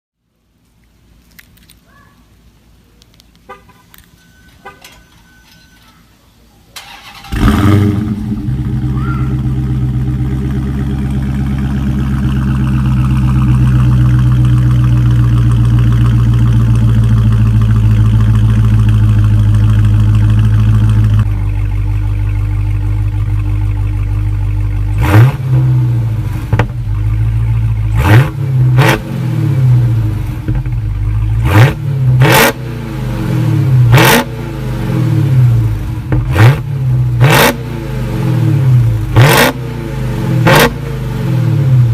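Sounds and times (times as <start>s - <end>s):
car engine starting and idling: 6.6s - 41.9s
car engine revving: 6.8s - 41.9s.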